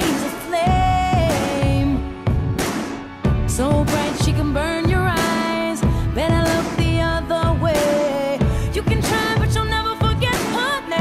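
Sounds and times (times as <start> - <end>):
person singing: 0.0 - 2.2, 3.5 - 11.0
steady drum beat: 0.0 - 11.0.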